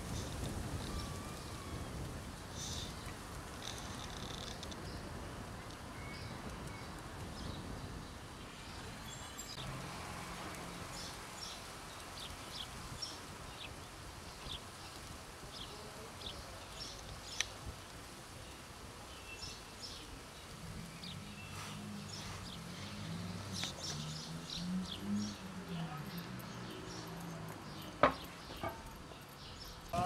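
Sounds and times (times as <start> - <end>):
small birds chirping: 0.0 - 9.8, 10.5 - 30.0.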